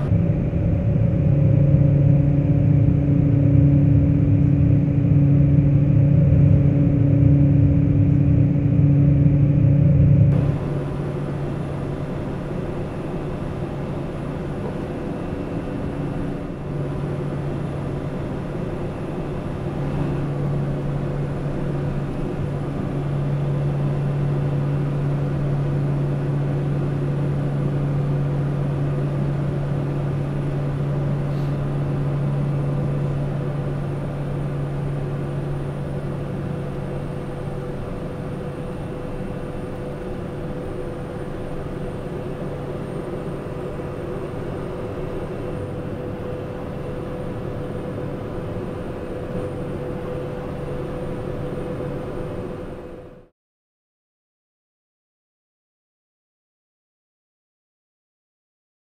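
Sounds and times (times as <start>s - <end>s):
turboprop engine droning: 0.0s - 53.3s.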